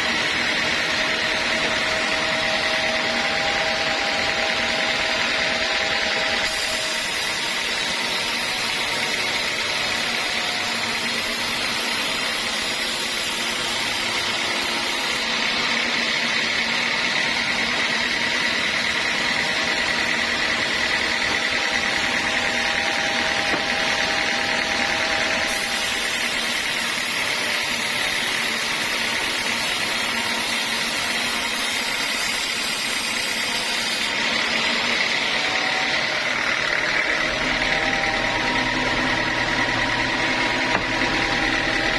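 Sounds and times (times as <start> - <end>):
sawmill machinery whirring: 0.0 - 41.9.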